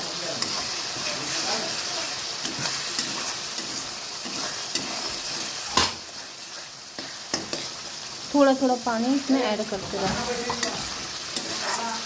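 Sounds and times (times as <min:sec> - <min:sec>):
spices sizzling in hot oil: 0:00.0 - 0:12.0
spatula scraping pan: 0:00.2 - 0:07.9, 0:09.1 - 0:12.0.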